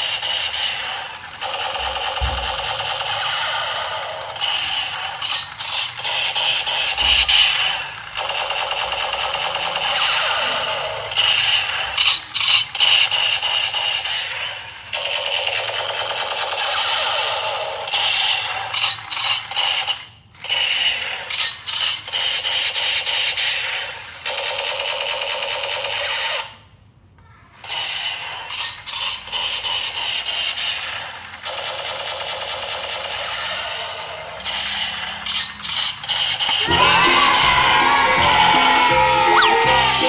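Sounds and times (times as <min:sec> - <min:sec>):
toy gun electronic sound effects: 0:00.0 - 0:26.7, 0:27.5 - 0:40.0.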